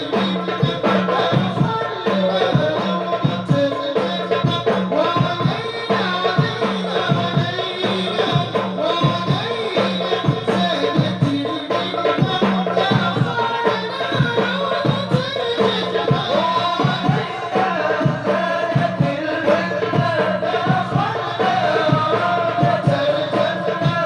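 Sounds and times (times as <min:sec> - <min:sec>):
group singing devotional song: 0:00.0 - 0:24.0
hand drums rhythm: 0:00.0 - 0:24.0.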